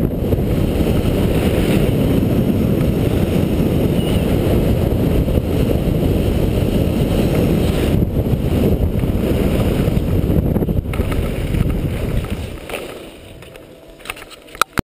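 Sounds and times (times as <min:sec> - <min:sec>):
skis running over snow: 0:00.0 - 0:14.6
wind noise on microphone: 0:00.0 - 0:14.8.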